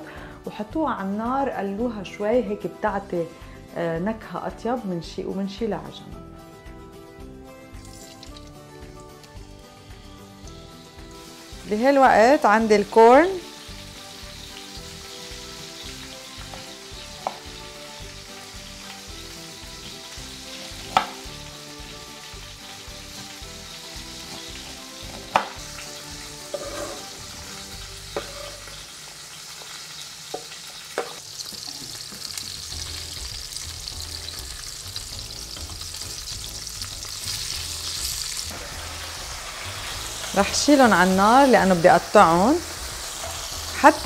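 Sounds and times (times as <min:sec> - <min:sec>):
chicken sizzling in a pan: 0:07.7 - 0:44.0.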